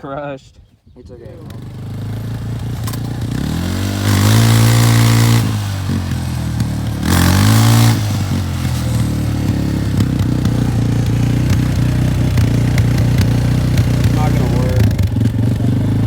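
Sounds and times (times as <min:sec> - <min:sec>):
engine revving under load: 0:01.2 - 0:16.0.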